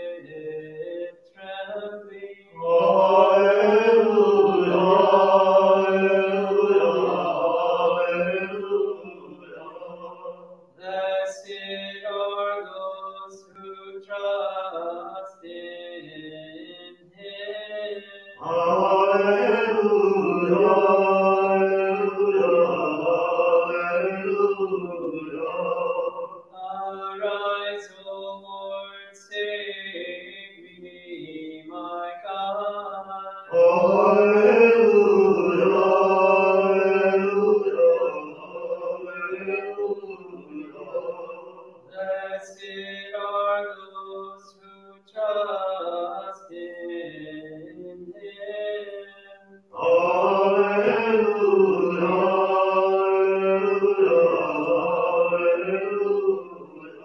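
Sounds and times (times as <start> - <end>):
group singing: 0.0 - 12.4, 18.4 - 28.3, 31.0 - 44.2, 45.2 - 57.0.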